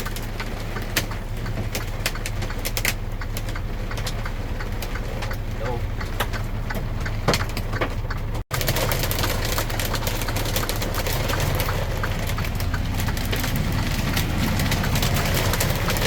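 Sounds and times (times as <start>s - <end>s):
hail pelting a windshield: 0.0s - 7.9s, 8.5s - 16.0s
truck engine humming: 0.0s - 16.0s.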